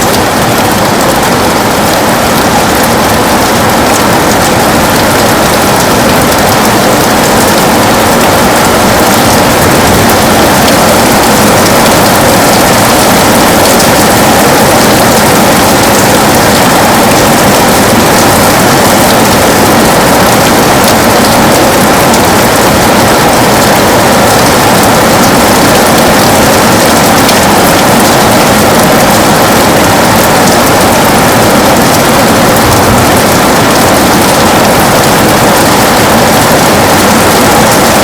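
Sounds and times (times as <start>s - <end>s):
heavy rain on a window: 0.0s - 38.0s.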